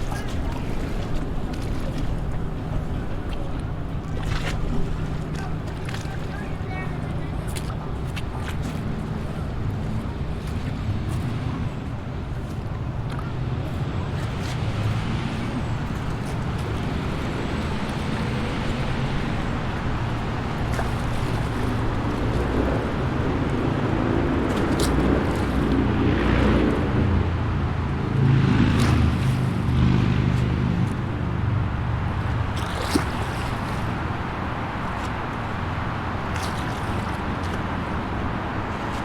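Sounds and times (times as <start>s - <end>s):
highway traffic rushing: 0.0s - 39.0s.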